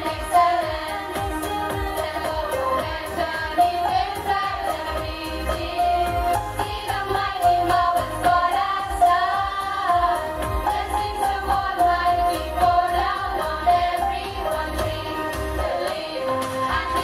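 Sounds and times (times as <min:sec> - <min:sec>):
instrumental accompaniment with beat: 0:00.0 - 0:17.0
students singing together: 0:00.0 - 0:17.0.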